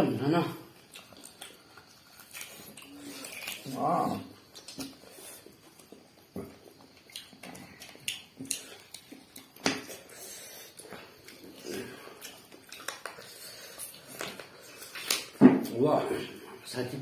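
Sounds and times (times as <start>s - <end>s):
chewing and lip-smacking: 0.8s - 15.4s.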